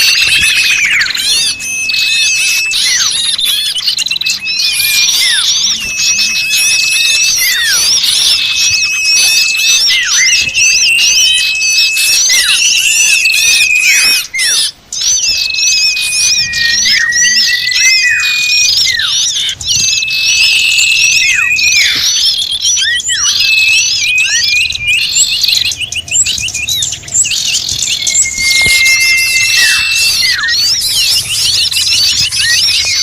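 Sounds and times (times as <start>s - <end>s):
long thin descending whistle: 0.0s - 33.0s
small birds chattering and calling: 0.0s - 33.0s.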